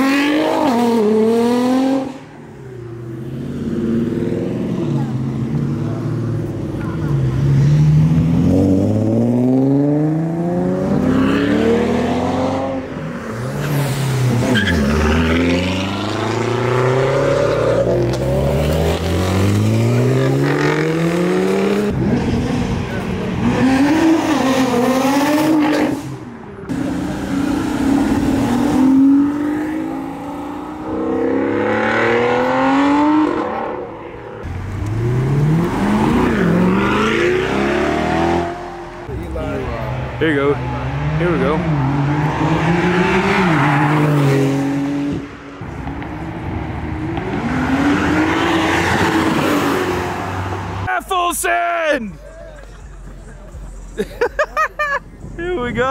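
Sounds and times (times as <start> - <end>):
cars accelerating hard: 0.0 - 51.0.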